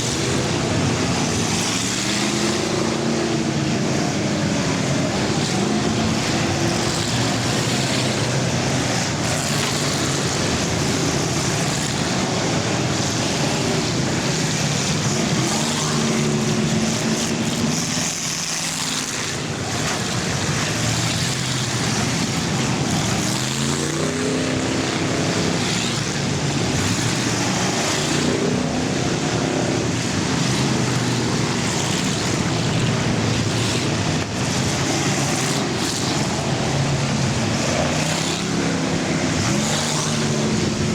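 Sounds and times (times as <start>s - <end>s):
cars accelerating past: 0.0s - 40.9s
racing car engines: 0.0s - 40.9s.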